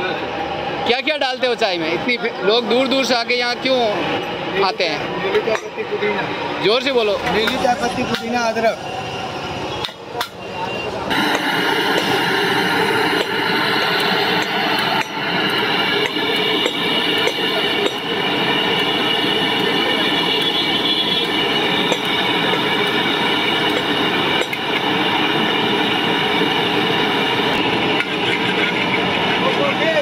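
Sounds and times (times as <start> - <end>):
stove fire roaring: 0.0 - 30.0.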